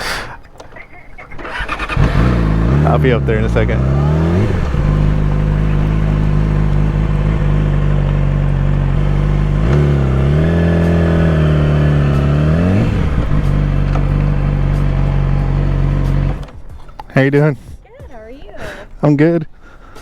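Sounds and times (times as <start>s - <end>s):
motorcycle engine revving: 0.6s - 20.0s.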